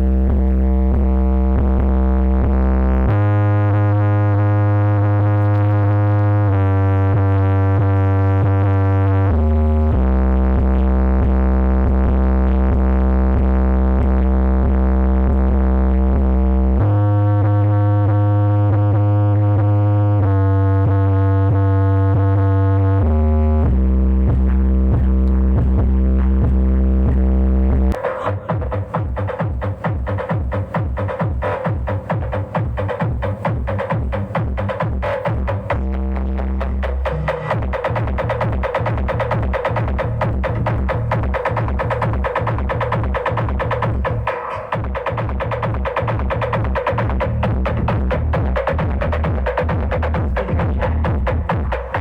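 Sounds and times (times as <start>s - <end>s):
electronic music with synth bass: 0.0s - 52.0s.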